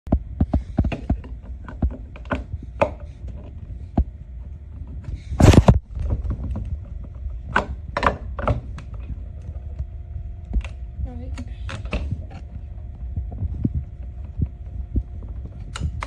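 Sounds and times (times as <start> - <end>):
low steady hum: 0.1 - 16.0.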